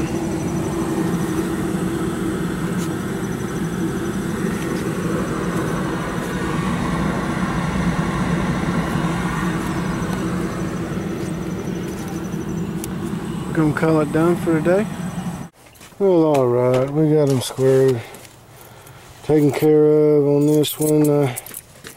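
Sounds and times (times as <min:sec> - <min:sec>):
heating unit blower humming: 0:00.0 - 0:21.4.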